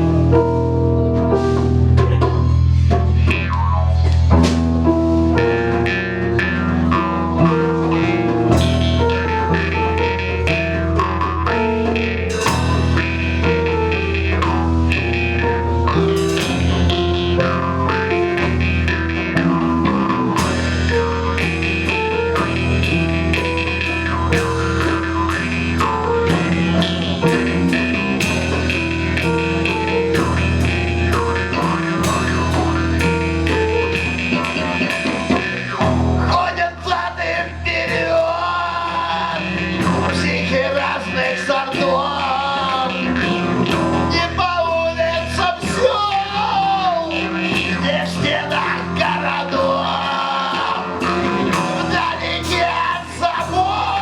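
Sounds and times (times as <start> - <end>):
bass guitar: 0.0 - 54.0
drum kit beat: 0.0 - 54.0
live blues-rock band playing: 0.0 - 54.0
wavering lead melody: 0.0 - 54.0.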